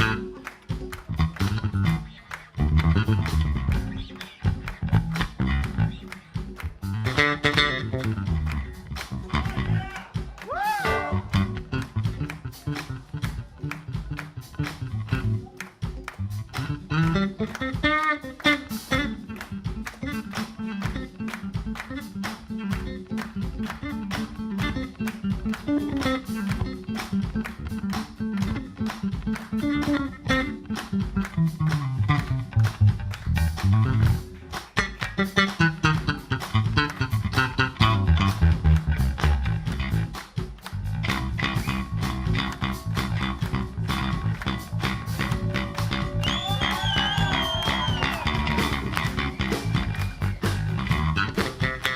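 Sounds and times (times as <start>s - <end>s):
drum beat: 0.0s - 51.9s
electric bass solo: 0.0s - 51.9s.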